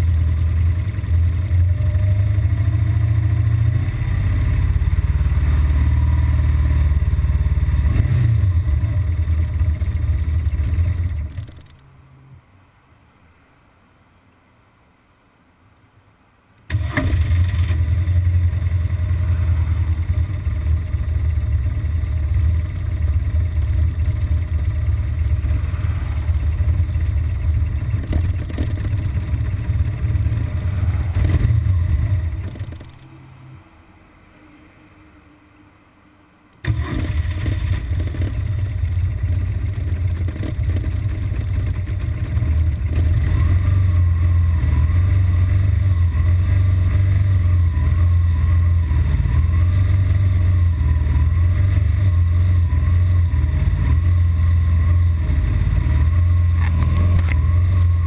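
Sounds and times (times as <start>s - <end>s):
motorcycle engine idling: 0.0s - 11.8s, 16.7s - 33.1s, 36.6s - 58.0s.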